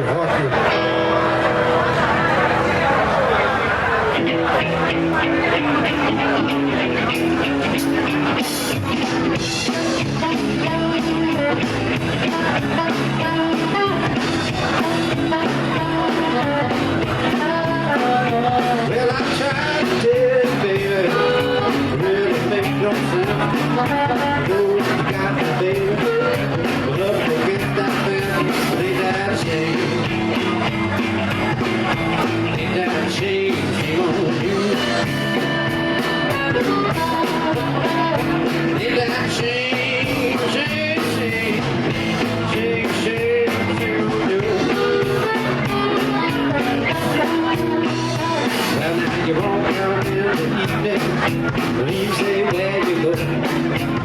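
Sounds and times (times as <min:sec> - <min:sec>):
electric blues band playing: 0:00.0 - 0:54.0.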